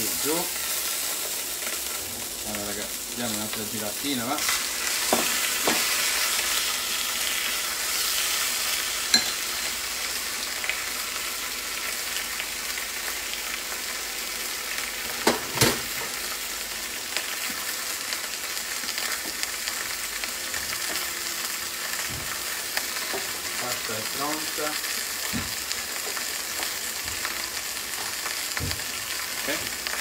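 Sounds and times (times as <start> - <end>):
steak sizzling in a grill pan: 0.0 - 30.0.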